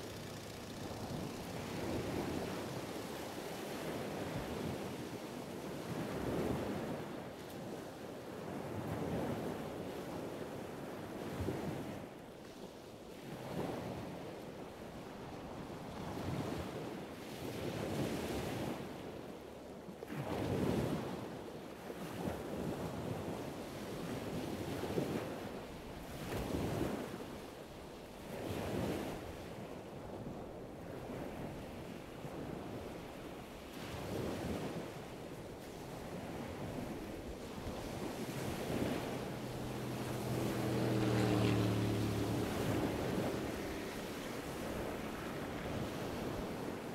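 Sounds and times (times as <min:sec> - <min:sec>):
waves washing in: 0:00.0 - 0:12.2, 0:20.1 - 0:46.9.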